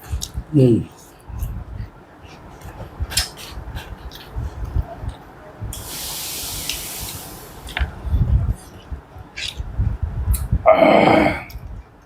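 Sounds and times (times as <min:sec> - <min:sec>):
steady hiss: 0:00.0 - 0:11.8.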